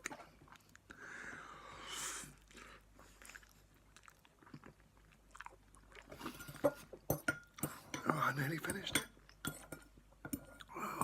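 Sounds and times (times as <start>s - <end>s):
soft chewing: 0.0s - 1.5s, 2.1s - 11.0s.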